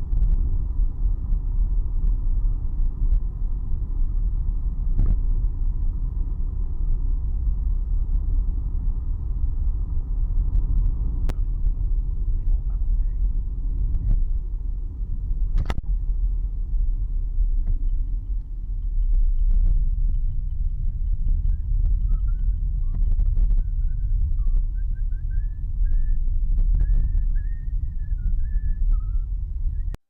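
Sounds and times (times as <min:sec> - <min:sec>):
van driving on road: 0:00.0 - 0:30.0.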